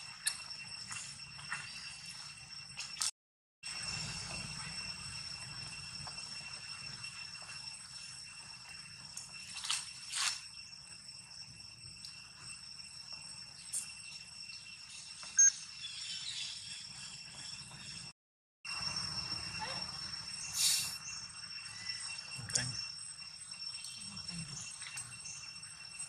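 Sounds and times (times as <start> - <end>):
insects chirring: 0.0 - 18.1, 18.7 - 26.0.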